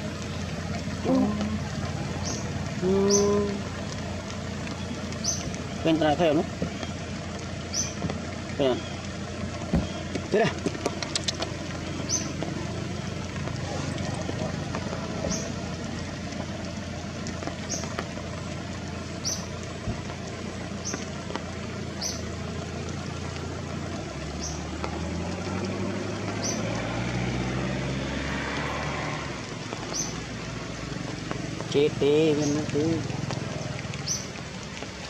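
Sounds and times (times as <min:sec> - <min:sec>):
motor engine hum: 0:00.0 - 0:35.0.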